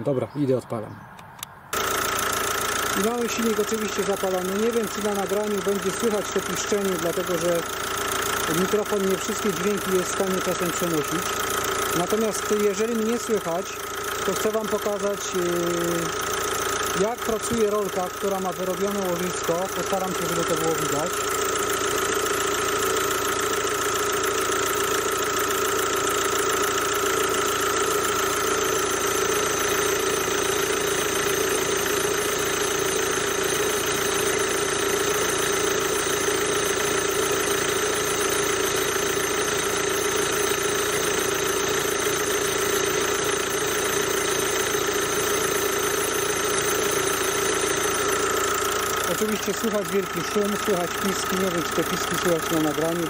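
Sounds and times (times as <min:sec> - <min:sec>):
diesel engine idling: 0:01.7 - 0:53.0
belt pulley squealing: 0:01.8 - 0:53.0.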